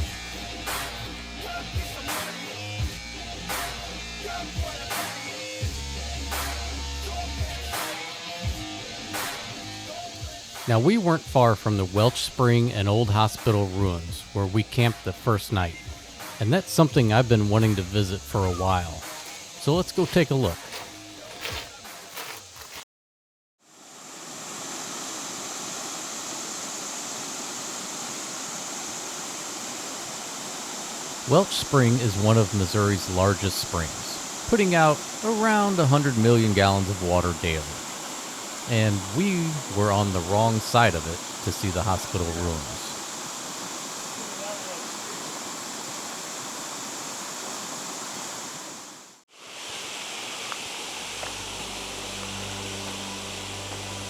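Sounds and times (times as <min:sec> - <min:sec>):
spring water rushing: 0:00.0 - 0:22.8, 0:23.7 - 0:54.0.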